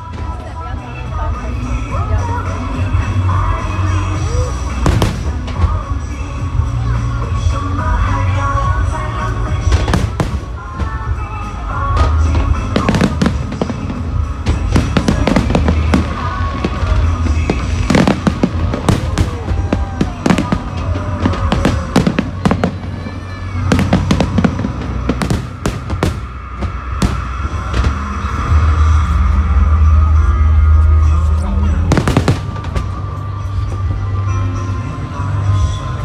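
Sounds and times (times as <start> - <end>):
fireworks bangs and crackling: 0.0 - 36.0
music playing: 0.0 - 36.0.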